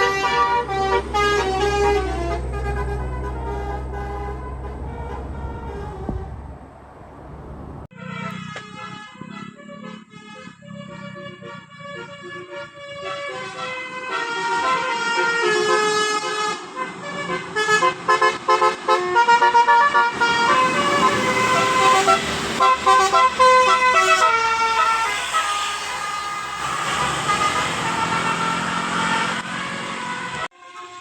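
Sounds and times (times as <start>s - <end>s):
multi-tone bus horn tune: 0.0s - 6.4s, 7.9s - 31.0s.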